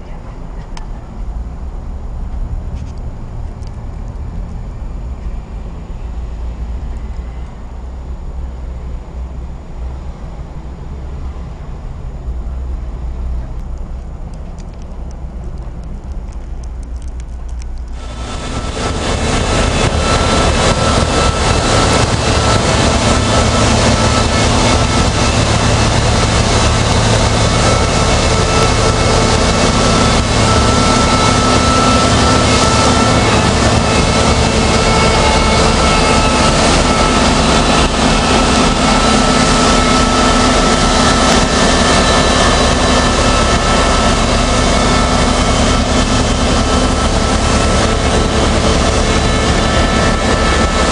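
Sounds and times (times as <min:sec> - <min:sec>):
engine droning: 0:00.0 - 0:50.9.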